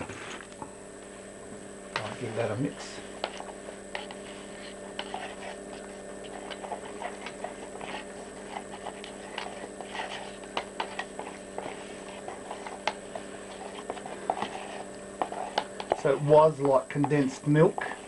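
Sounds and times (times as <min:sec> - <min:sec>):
steady hum: 0:00.0 - 0:18.0
spoon stirring in plastic tub: 0:01.9 - 0:18.0.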